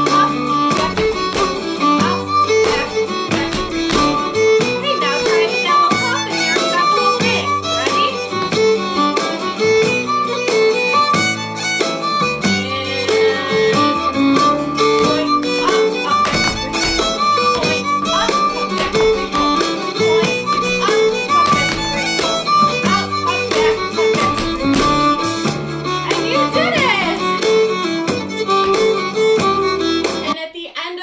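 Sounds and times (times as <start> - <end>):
fiddle-led dance music: 0.0 - 30.4.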